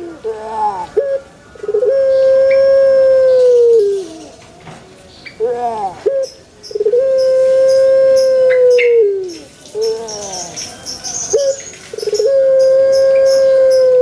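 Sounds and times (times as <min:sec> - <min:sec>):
dove cooing: 0:00.0 - 0:04.4, 0:05.4 - 0:14.0.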